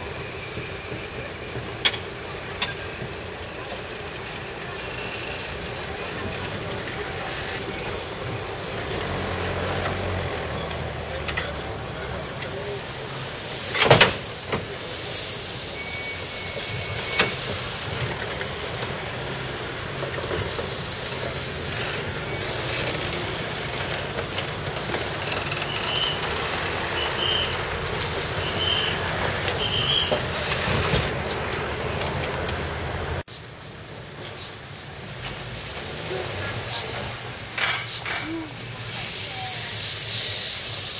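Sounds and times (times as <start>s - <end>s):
steam locomotive hissing steam: 0.0s - 40.9s.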